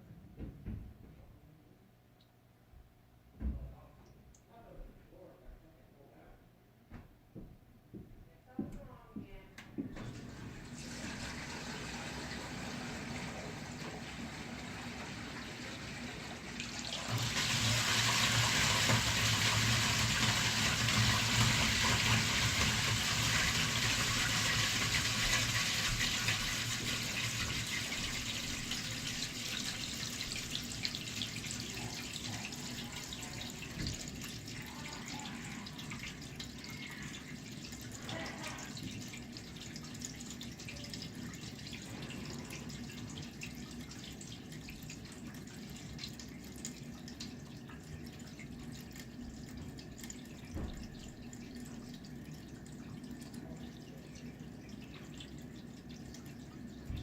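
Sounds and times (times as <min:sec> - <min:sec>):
toilet flushing: 0:10.0 - 0:57.0.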